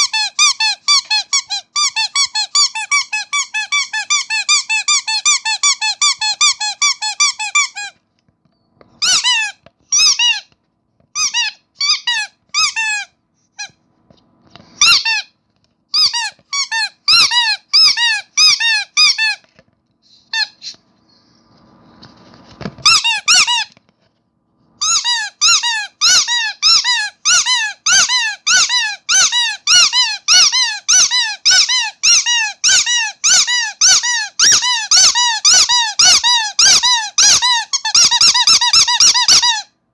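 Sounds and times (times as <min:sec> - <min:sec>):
squeaky dog toy squeaking: 0:00.0 - 0:08.0, 0:09.0 - 0:13.8, 0:14.7 - 0:19.5, 0:20.2 - 0:20.8, 0:22.8 - 0:23.8, 0:24.8 - 0:39.8.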